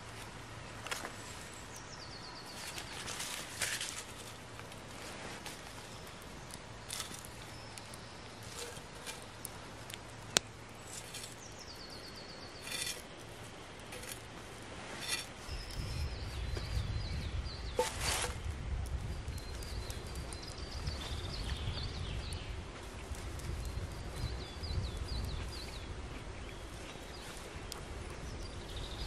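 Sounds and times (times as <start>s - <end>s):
songbirds singing: 0.5s - 29.0s.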